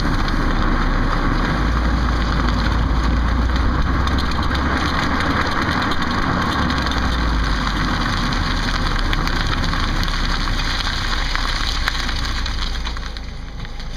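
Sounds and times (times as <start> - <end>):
car noise with low rumble: 0.0 - 13.9.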